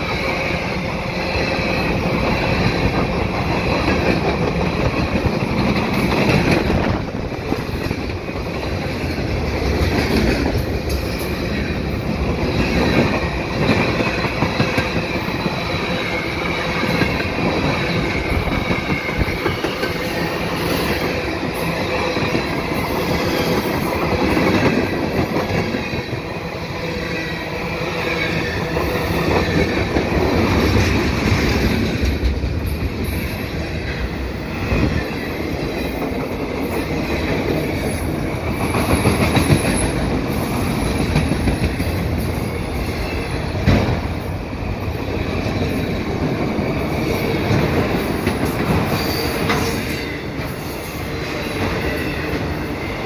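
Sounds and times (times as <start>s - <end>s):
clickety-clack over rail joints: 0.0s - 53.0s
train wheels rumbling on rails: 0.0s - 53.0s.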